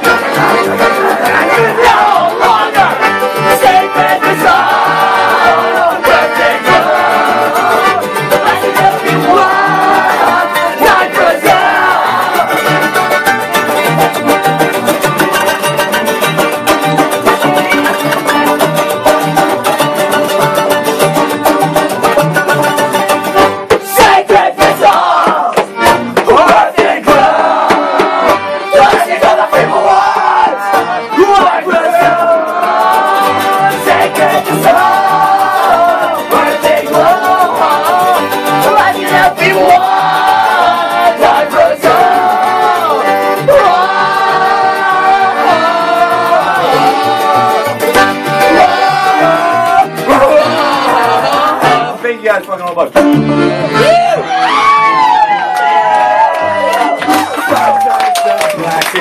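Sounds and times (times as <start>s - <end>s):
guitar: 0.0s - 59.0s
live band playing fast music: 0.0s - 59.0s
upright bass: 0.0s - 59.0s.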